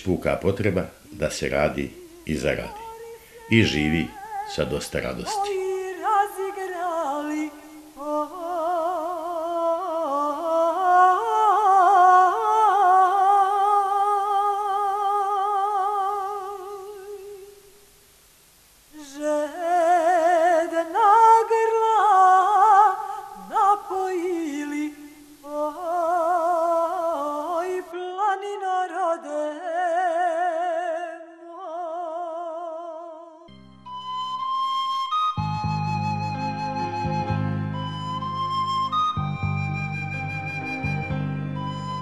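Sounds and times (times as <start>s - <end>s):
person singing with vibrato: 0.0s - 18.0s, 18.8s - 42.0s.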